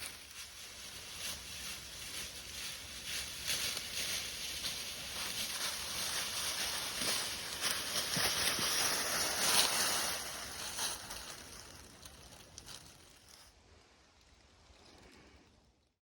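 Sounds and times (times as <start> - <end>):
wind rushing through woods: 0.0 - 15.9.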